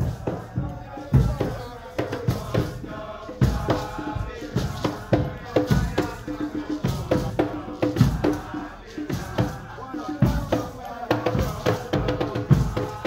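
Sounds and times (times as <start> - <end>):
bass drum and hand drums: 0.0 - 13.0
group chanting: 0.0 - 13.0.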